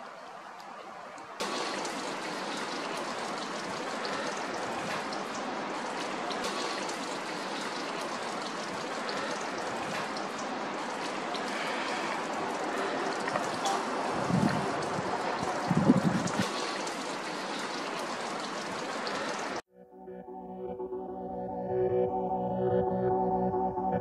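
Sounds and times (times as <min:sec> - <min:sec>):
rain falling: 0:00.0 - 0:19.6.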